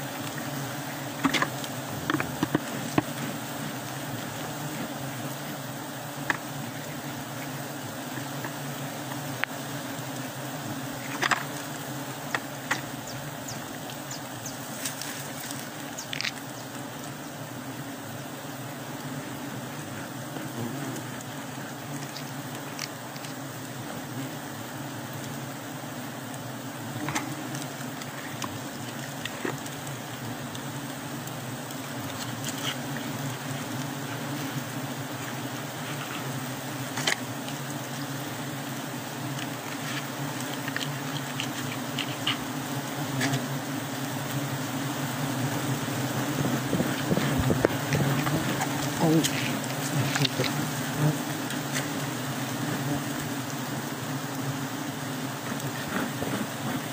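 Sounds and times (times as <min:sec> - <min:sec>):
bees buzzing: 0:00.0 - 0:56.9.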